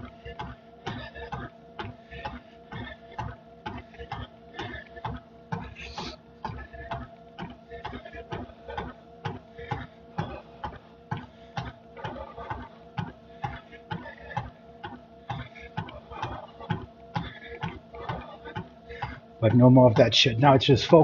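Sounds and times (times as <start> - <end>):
cardio machine clicking: 0.0 - 21.0
mechanical hum: 0.0 - 21.0.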